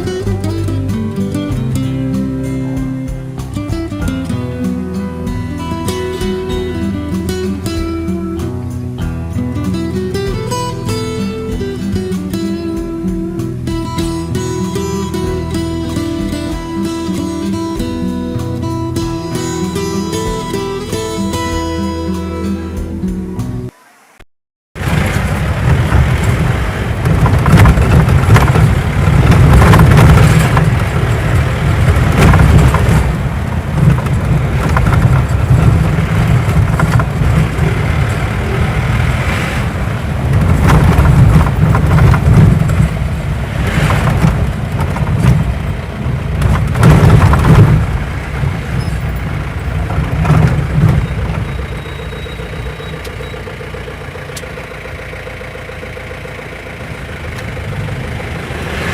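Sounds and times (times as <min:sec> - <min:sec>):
motor vehicle engine rumbling: 0:00.0 - 0:23.8, 0:24.7 - 0:58.9.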